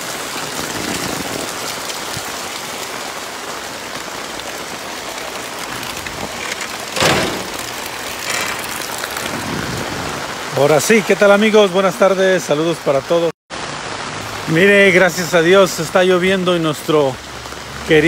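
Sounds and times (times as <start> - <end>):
rain falling on wet street: 0.0 - 18.0.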